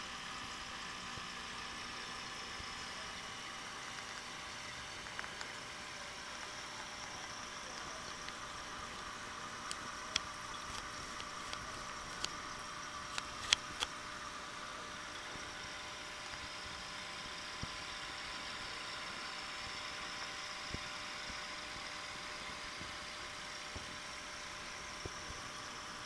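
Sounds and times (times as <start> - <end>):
aquarium bubbling hiss: 0.0 - 26.0
faint hum: 0.0 - 26.0.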